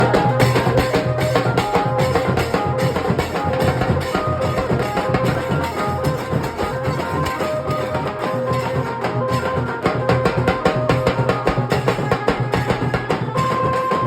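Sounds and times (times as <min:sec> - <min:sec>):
fast dhol drumming: 0:00.0 - 0:14.0.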